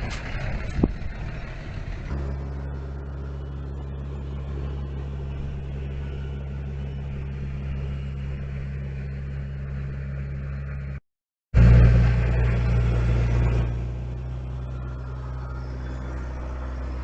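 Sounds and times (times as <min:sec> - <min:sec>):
diesel truck engine idling: 0:00.0 - 0:11.0, 0:11.6 - 0:17.0.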